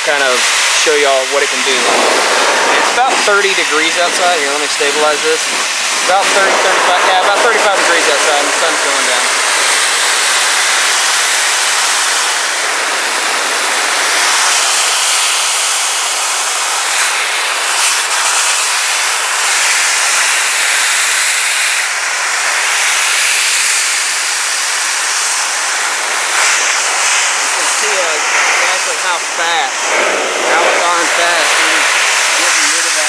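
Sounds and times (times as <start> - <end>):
blower dryer blowing air: 0.0 - 33.0.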